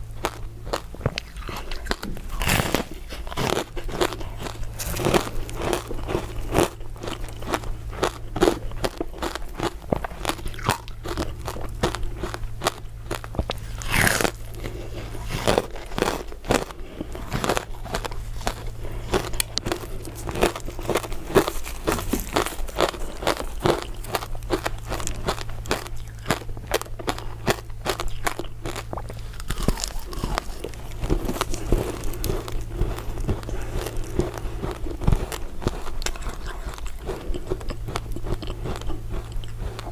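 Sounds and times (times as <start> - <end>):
person crunching ice dessert: 0.0 - 39.9
wet chewing: 0.0 - 39.9.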